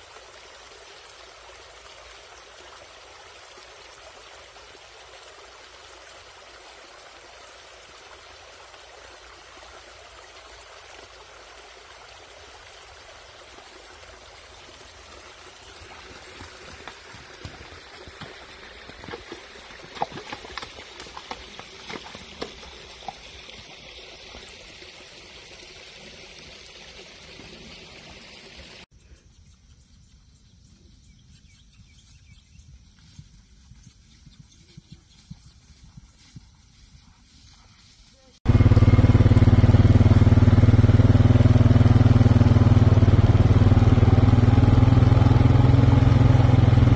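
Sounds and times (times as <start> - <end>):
creek running: 0.0 - 28.9, 32.9 - 46.9
hooves splashing through water: 0.0 - 28.9, 32.0 - 46.9.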